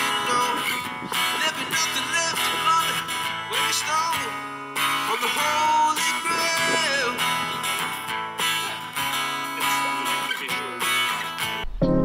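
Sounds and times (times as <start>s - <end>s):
guitar plucked and strummed: 0.0s - 12.0s.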